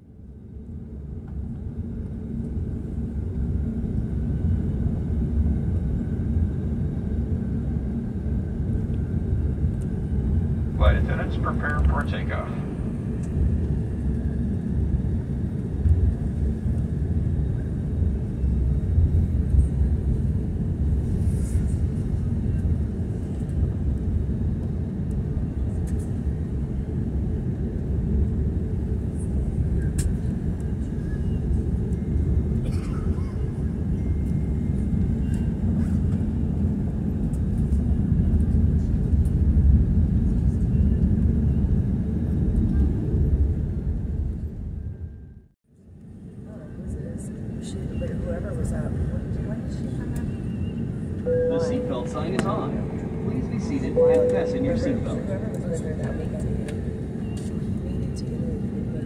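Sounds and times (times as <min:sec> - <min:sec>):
airliner engine rumble: 0:00.0 - 0:59.0.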